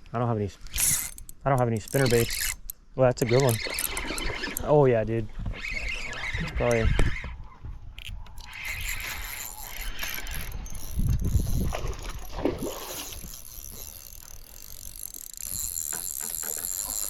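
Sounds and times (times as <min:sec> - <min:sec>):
fishing reel drag clicking: 0:00.6 - 0:04.8, 0:05.4 - 0:07.4, 0:08.0 - 0:17.0.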